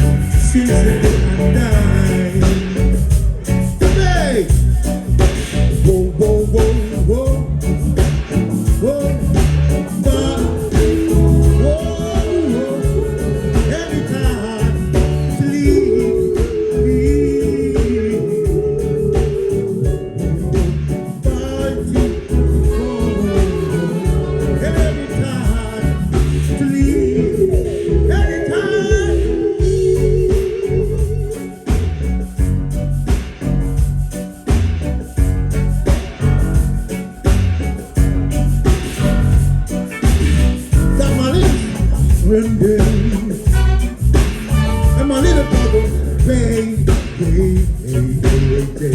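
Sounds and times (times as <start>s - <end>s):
reggae band playing: 0.0s - 48.9s.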